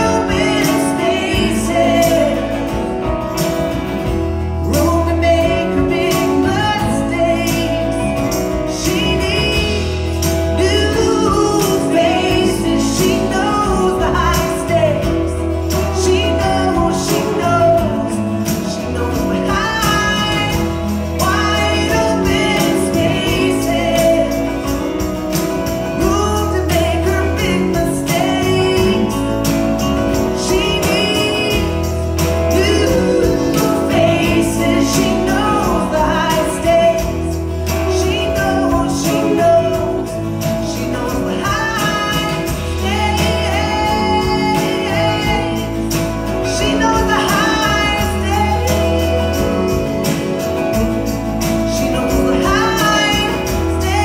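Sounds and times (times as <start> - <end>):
country band playing: 0.0 - 54.0
woman singing: 0.0 - 54.0.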